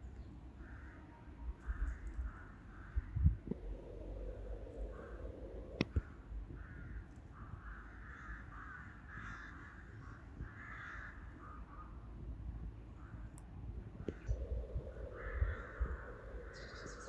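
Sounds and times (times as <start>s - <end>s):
crows cawing: 0.6s - 12.0s, 14.2s - 17.0s.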